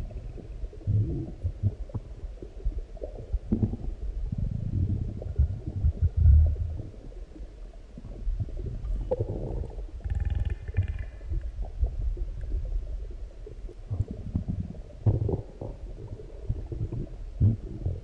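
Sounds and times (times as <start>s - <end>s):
stomach growling and gurgling: 0.0s - 18.0s.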